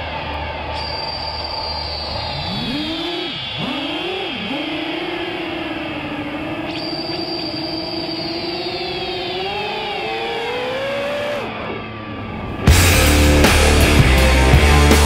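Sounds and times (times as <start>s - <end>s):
drone motors buzzing whine: 0.7s - 13.9s.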